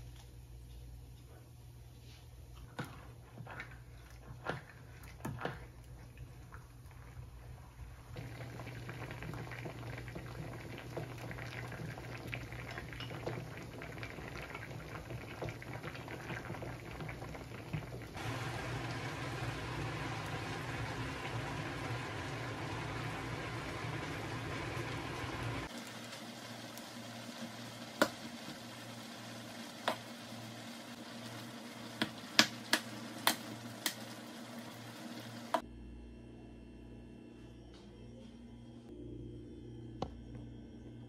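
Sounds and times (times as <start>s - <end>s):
food bubbling and crackling: 2.6s - 35.6s.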